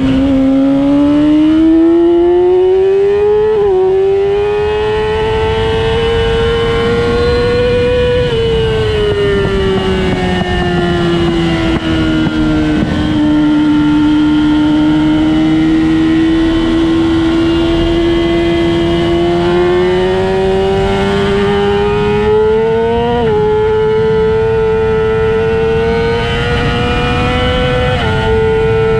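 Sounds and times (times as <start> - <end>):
race car engine: 0.0 - 28.9.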